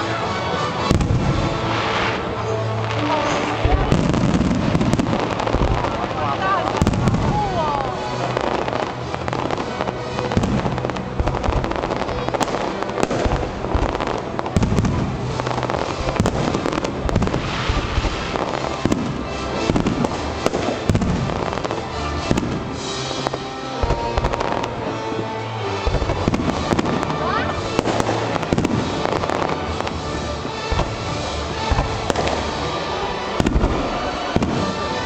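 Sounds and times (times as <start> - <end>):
fireworks bursting and crackling: 0.0 - 35.0
music playing: 0.0 - 35.0.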